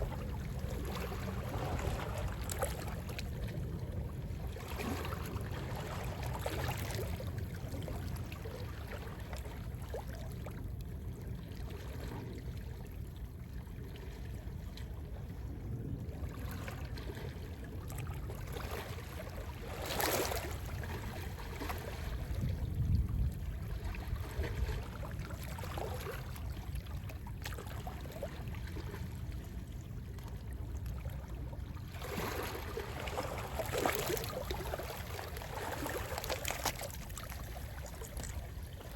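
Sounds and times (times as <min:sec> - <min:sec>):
sea wind rumble: 0:00.0 - 0:38.9.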